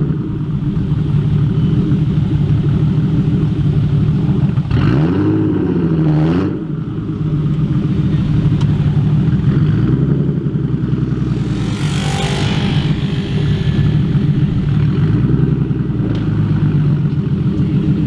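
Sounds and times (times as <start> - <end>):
car engine running with loud exhaust: 0.0 - 18.0.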